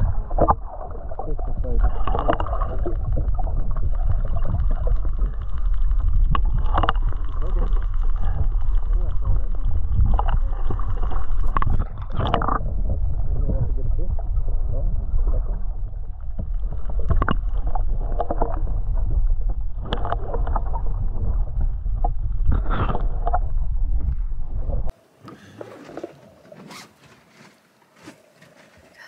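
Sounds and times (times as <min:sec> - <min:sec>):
low rumble: 0:00.0 - 0:25.0
water sloshing against hull: 0:00.0 - 0:29.0.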